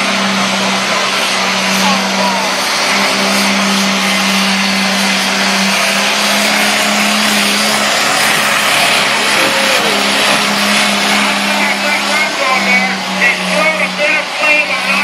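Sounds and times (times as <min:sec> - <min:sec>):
tractor engine at high revs: 0:00.0 - 0:15.0.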